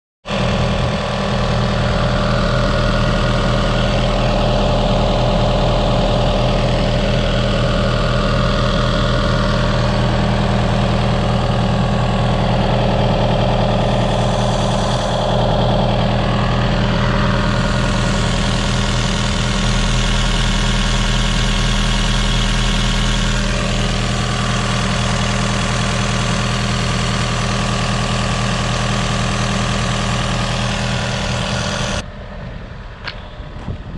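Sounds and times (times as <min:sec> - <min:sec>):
diesel engine idling: 0:00.3 - 0:33.9.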